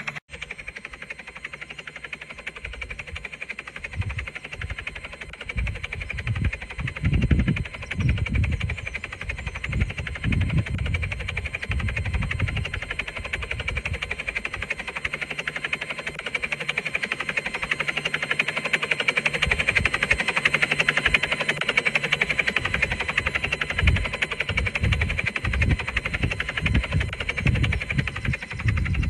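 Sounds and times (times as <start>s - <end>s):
helicopter rotor chopping: 0.0s - 29.0s.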